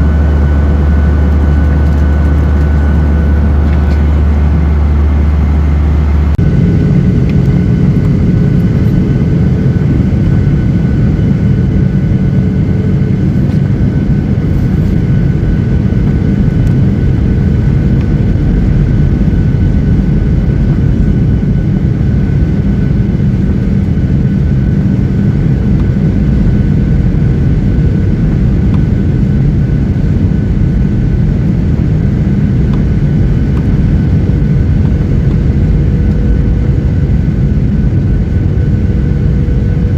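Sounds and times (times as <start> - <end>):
faint steady whine: 0.0 - 39.9
jet engine roar in cabin: 0.0 - 39.9.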